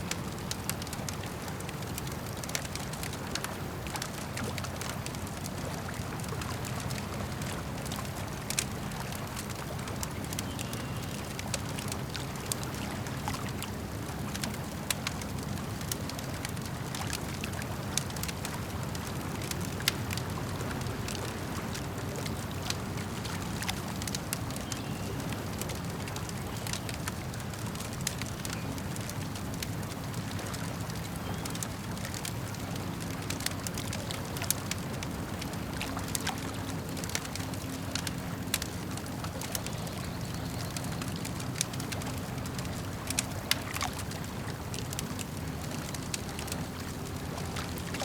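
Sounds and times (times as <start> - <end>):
campfire crackling and popping: 0.0 - 48.0
lake water lapping: 0.0 - 48.0.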